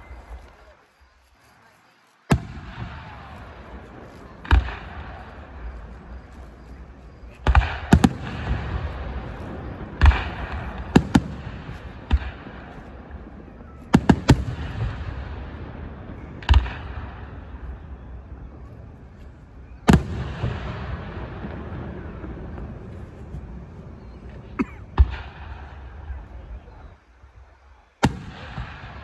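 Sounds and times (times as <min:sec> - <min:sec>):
fireworks banging with echo: 0:02.3 - 0:26.9, 0:28.0 - 0:29.0.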